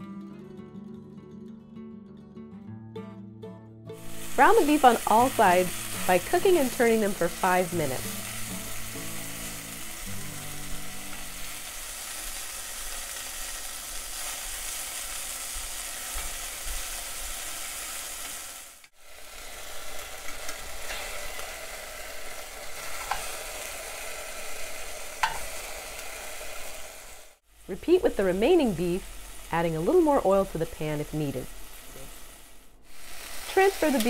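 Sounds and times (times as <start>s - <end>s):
meat sizzling in oil: 4.0s - 34.0s.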